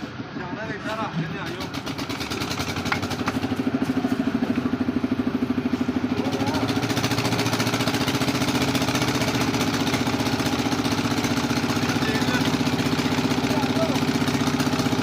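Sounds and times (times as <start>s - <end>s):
engine idling: 0.9s - 15.0s.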